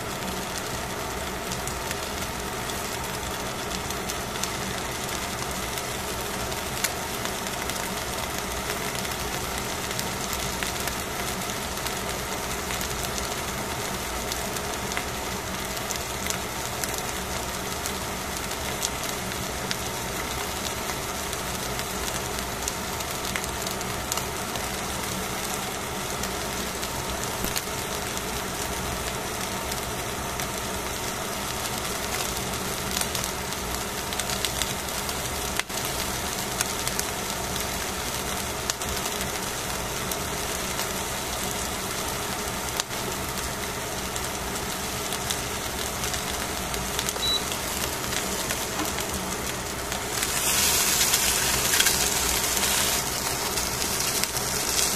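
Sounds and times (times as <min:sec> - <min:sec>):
fish sizzling on foil: 0:00.0 - 0:54.9.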